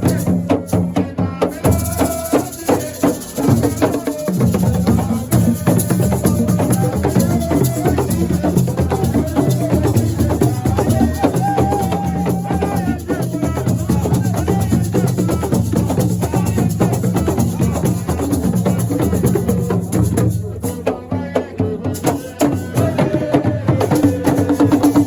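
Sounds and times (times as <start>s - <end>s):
fast percussion: 0.0s - 25.0s.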